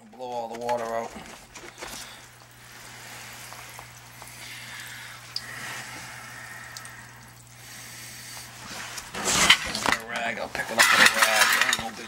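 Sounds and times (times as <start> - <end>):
low steady hum: 0.0 - 12.0
water and air hissing from hose: 1.5 - 12.0.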